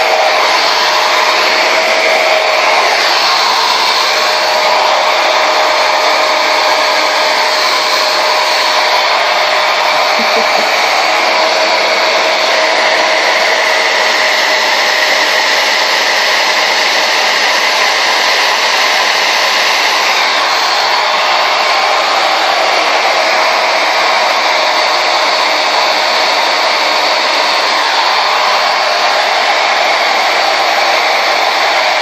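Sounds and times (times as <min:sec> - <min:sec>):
blow dryer running: 0:00.0 - 0:32.0.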